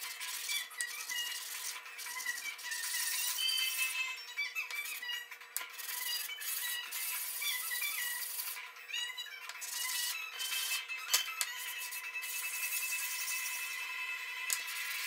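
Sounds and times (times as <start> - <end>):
metal rubbing on wet sandpaper: 0.0 - 4.0, 4.7 - 8.6, 9.6 - 13.8
background music: 0.0 - 15.0.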